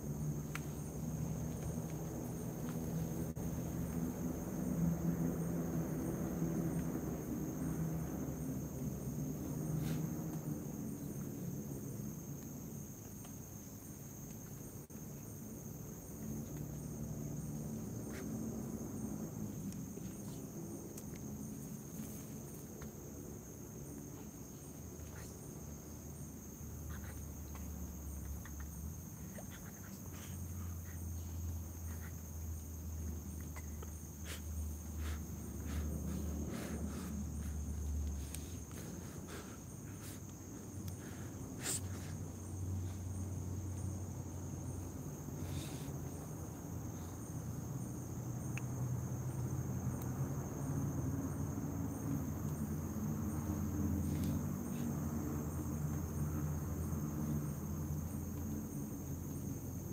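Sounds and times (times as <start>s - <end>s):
night insects chirping: 0.0s - 59.9s.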